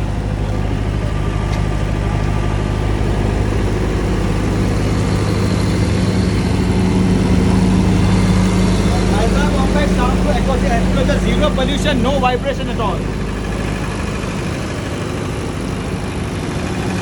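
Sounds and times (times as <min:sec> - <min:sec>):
diesel generator droning: 0:00.0 - 0:17.0.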